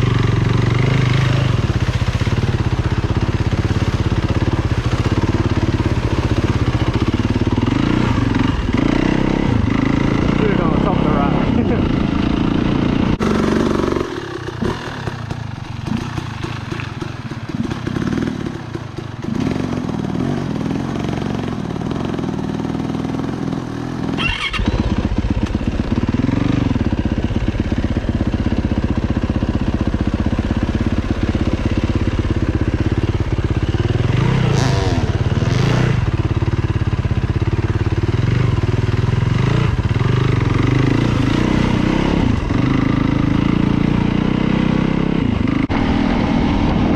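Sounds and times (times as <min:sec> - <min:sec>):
dirt bike engine revving: 0:00.0 - 0:28.2, 0:30.5 - 0:46.9.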